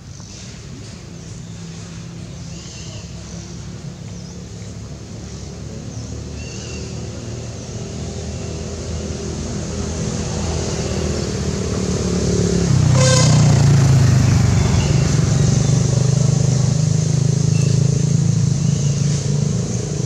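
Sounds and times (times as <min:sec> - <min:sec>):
vehicle engine running: 0:00.2 - 0:20.0.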